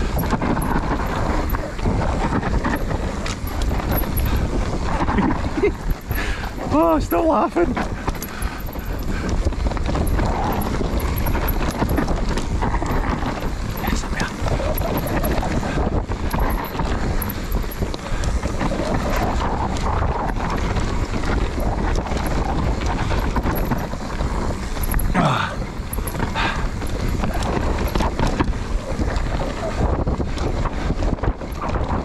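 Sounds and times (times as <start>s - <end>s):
bike rattling and knocking: 0.0s - 32.0s
tyres rolling over dirt: 0.0s - 32.0s
wind rushing over microphone: 0.0s - 32.0s.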